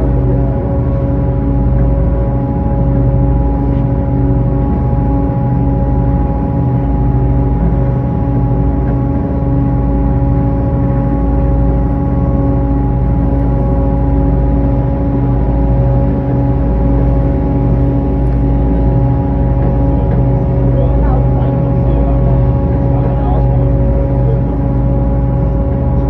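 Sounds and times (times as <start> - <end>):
boat engine rumbling: 0.0 - 26.0
humming tones: 0.0 - 26.0.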